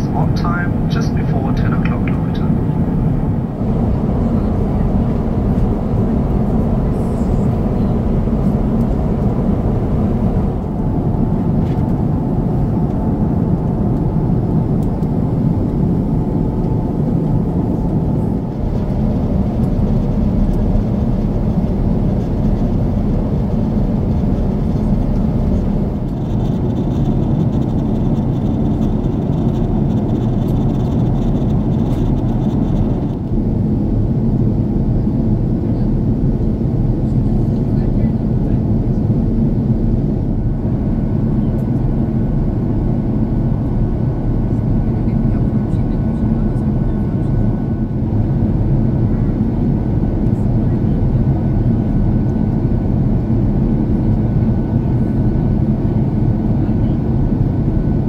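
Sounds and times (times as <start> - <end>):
airliner cabin engine roar: 0.0 - 58.0.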